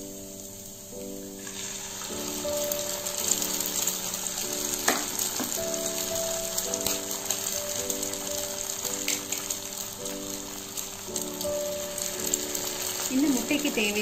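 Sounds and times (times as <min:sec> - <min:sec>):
background music with held notes: 0:00.0 - 0:14.0
egg sizzling in hot oil: 0:00.0 - 0:14.0.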